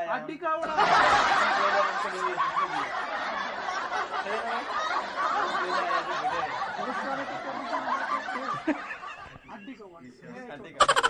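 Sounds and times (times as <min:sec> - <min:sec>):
people laughing and chattering: 0:00.0 - 0:11.0.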